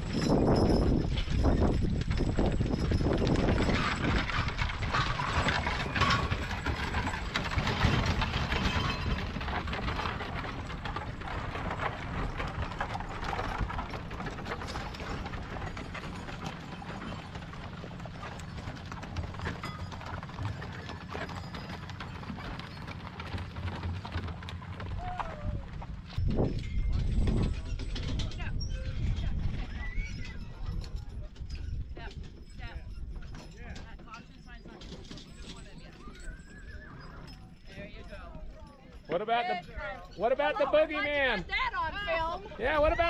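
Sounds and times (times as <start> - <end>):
hooves clopping on dirt road: 0.0 - 43.0
wooden wagon wheels rattling: 0.0 - 43.0.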